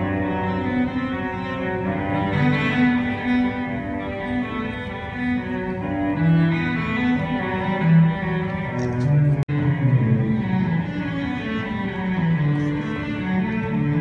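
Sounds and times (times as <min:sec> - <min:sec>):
low bowed string melody: 0:00.0 - 0:14.0.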